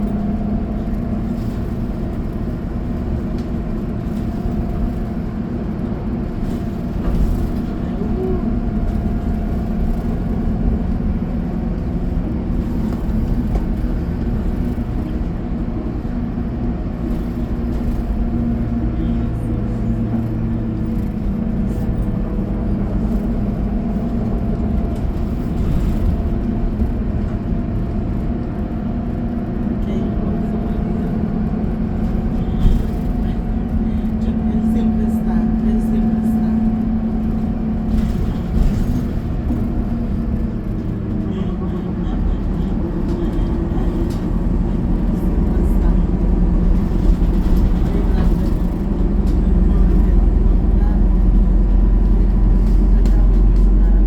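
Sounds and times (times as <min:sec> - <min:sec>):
bus bumps: 0:00.0 - 0:54.0
bus engine hum: 0:00.0 - 0:54.0
tyre and road noise: 0:00.0 - 0:54.0.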